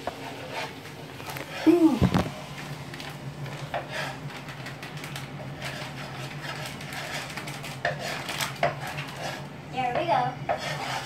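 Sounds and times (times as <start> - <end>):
utensil scraping a pan: 0.0 - 2.5, 3.4 - 11.0
steady low hum: 0.0 - 11.0.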